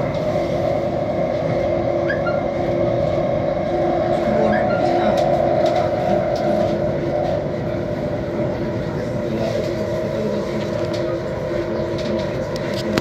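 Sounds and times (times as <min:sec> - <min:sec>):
steady humming tones: 0:00.0 - 0:13.0
train wheels rumbling on rail: 0:00.0 - 0:13.0.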